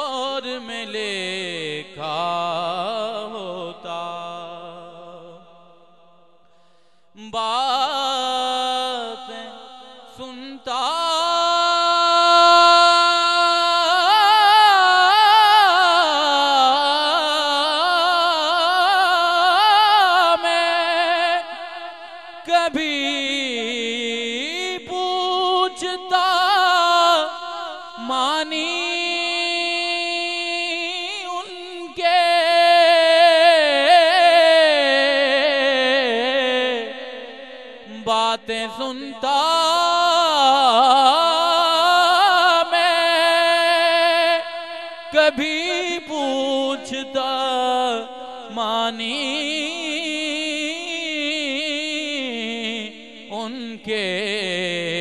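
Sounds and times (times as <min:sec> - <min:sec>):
man singing into a microphone: 0:00.0 - 0:06.4, 0:07.1 - 0:55.0.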